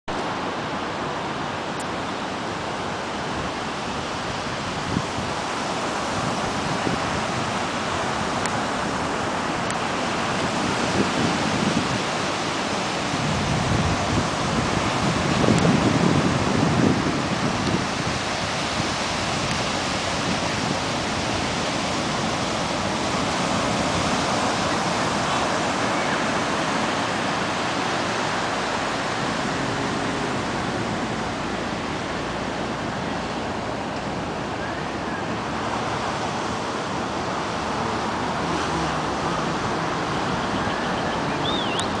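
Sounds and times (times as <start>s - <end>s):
ocean surf breaking: 0.1s - 42.0s.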